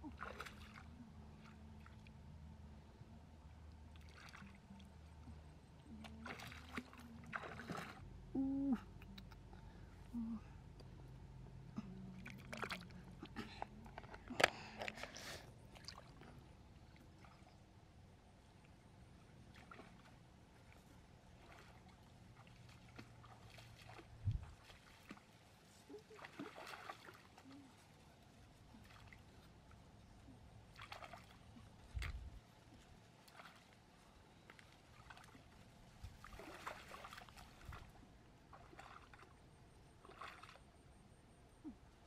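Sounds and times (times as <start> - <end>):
water sloshing and splashing: 0.0 - 2.4, 3.8 - 8.1, 11.8 - 17.8, 18.4 - 40.9.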